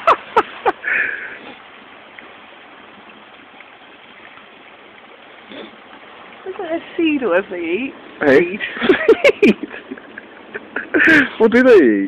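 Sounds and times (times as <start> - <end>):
faint running water: 0.0 - 12.0.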